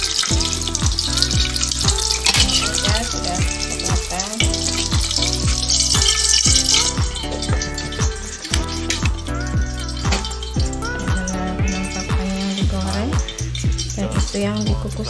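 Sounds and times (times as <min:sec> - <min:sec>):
background music with beat: 0:00.0 - 0:15.0
food deep-frying in oil: 0:00.0 - 0:15.0.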